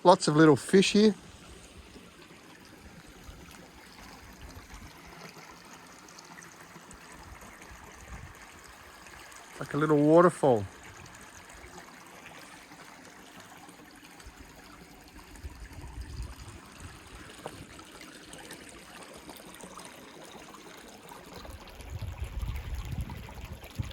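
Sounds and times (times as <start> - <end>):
waterfall trickling over rocks: 0.0 - 23.9.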